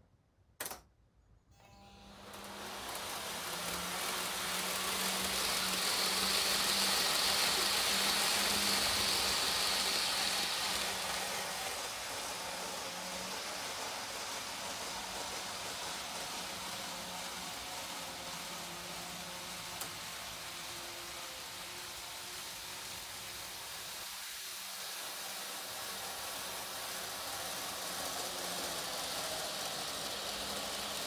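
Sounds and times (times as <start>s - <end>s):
model train wheels rolling on rail: 1.7s - 31.0s.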